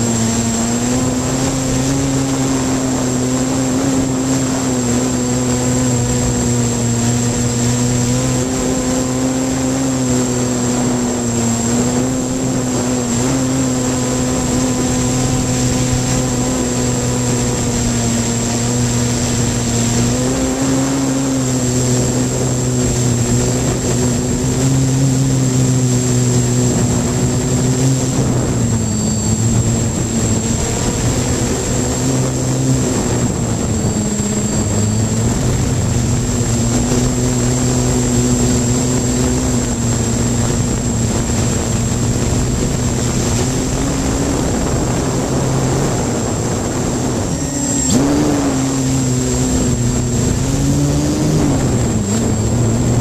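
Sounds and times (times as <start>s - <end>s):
drone propellers buzzing: 0.0s - 53.0s
thin high whine: 0.0s - 53.0s.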